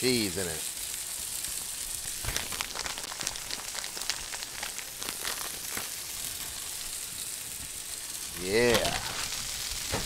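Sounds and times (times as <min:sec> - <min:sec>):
food sizzling on a griddle: 0:00.0 - 0:10.0.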